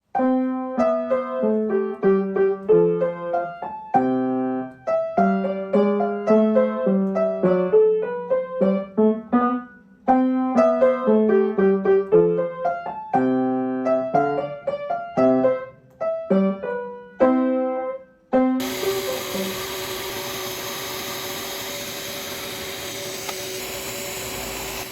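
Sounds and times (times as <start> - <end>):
solo piano melody: 0.0 - 20.6.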